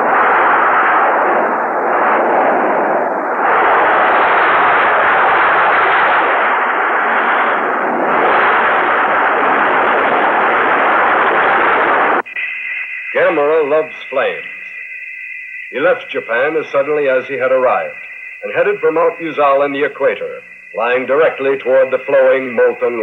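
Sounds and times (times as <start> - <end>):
rumbling roar of blasts: 0.0 - 22.8.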